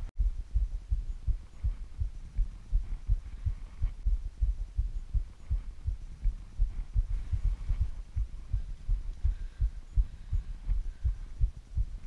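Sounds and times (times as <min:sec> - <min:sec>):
dull muffled low thumps: 0:00.0 - 0:12.0.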